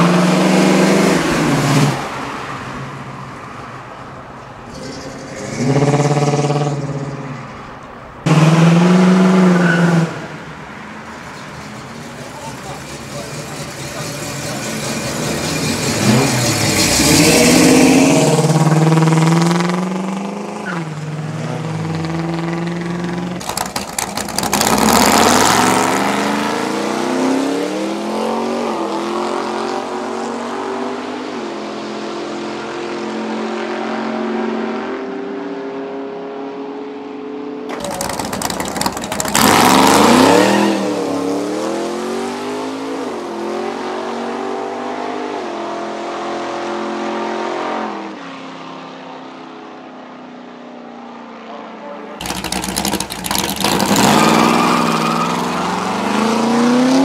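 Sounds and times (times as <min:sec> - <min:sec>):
cars passing close by: 0:00.0 - 0:57.0
muscle car engines accelerating: 0:04.4 - 0:35.4, 0:37.7 - 0:48.1, 0:52.2 - 0:57.0.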